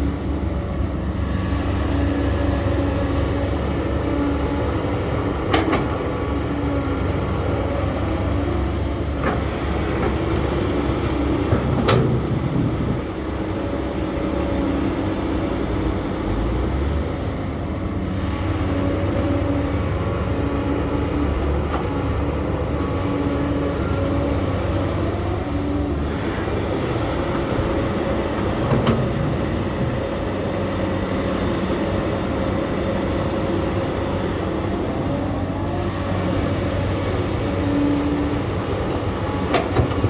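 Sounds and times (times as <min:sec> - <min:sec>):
diesel machinery running: 0:00.0 - 0:40.0.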